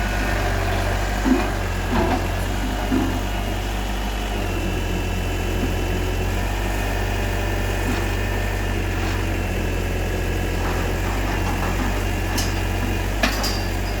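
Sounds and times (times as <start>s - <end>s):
hydraulic power unit humming: 0.0s - 14.0s.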